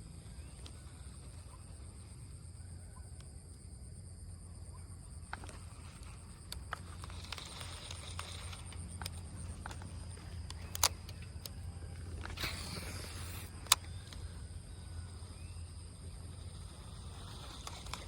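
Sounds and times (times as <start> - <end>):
insect buzz: 0.0 - 18.0
low hum: 0.0 - 18.0.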